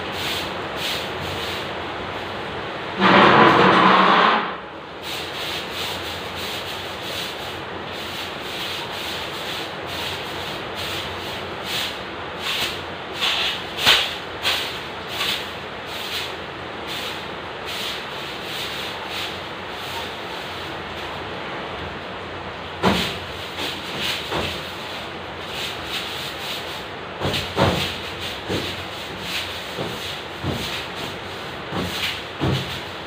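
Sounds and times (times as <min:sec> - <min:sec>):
broom scraping ceiling and wall: 0:00.0 - 0:02.4, 0:03.0 - 0:21.3, 0:22.7 - 0:33.0.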